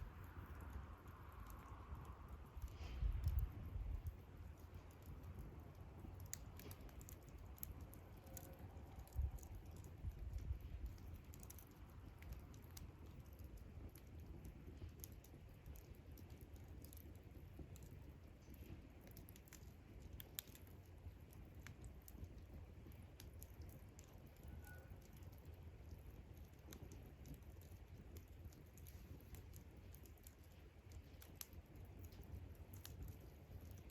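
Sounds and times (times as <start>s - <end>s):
campfire crackling: 0.0s - 33.9s
fire pops and snaps: 0.0s - 33.9s.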